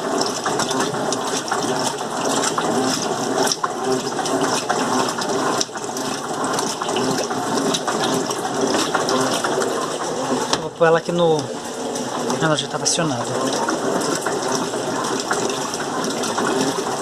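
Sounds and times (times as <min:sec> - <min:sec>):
water splashing in washing machine: 0:00.0 - 0:17.0.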